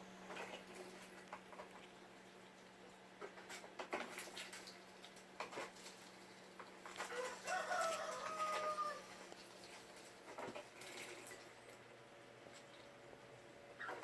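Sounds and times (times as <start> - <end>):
ducks dabbling and splashing: 0.0 - 14.0.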